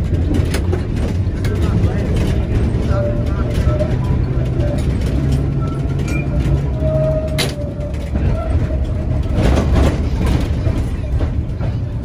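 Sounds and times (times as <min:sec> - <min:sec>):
tram rumble with whine: 0:00.0 - 0:12.0.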